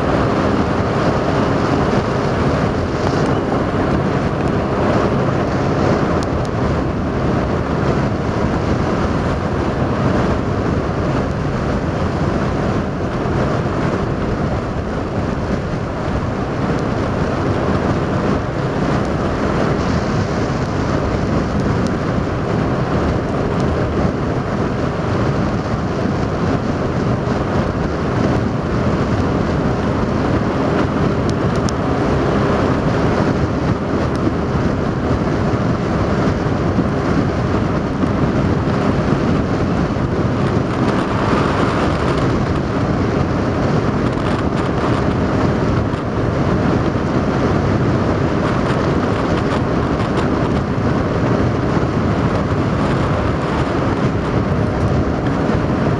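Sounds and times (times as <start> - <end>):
motorboat motor droning: 0.0 - 55.9
water rushing: 0.0 - 55.9
wind buffeting microphone: 0.0 - 55.9.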